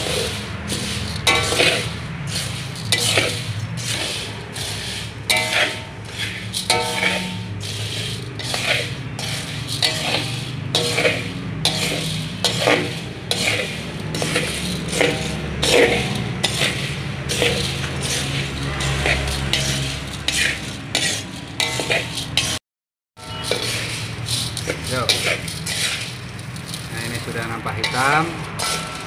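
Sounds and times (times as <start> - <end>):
beans scraping and rattling in pan: 0.0 - 22.6, 23.2 - 29.0.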